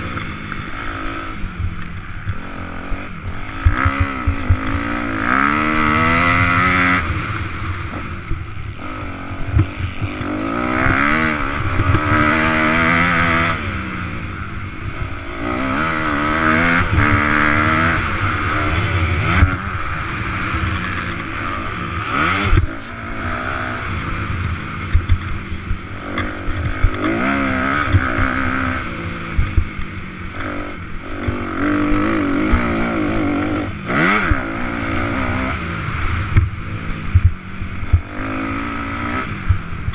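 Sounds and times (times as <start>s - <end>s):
dirt bike engine racing: 0.0s - 39.9s.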